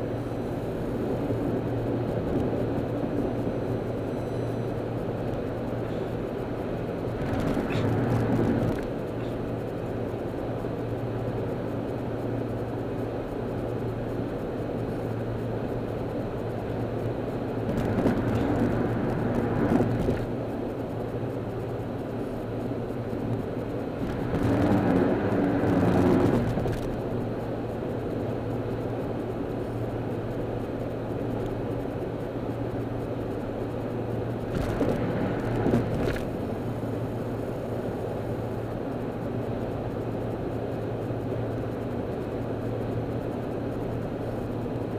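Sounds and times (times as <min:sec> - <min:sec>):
car engine hum: 0:00.0 - 0:44.9.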